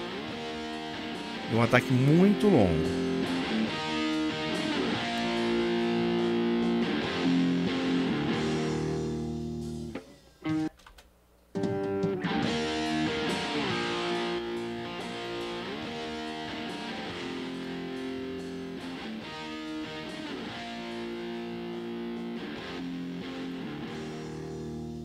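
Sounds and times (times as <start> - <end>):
electric guitar chords: 0.0 - 10.7, 11.6 - 25.0.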